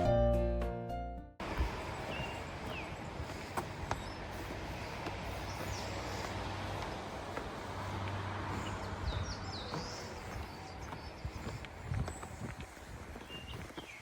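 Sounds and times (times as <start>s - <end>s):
birds chirping: 1.4s - 14.0s.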